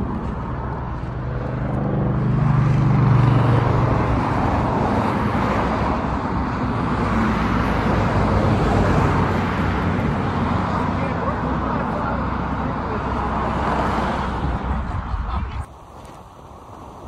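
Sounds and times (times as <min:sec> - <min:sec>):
vehicle passing: 0:00.0 - 0:15.7
highway tyre and engine noise: 0:00.0 - 0:17.0.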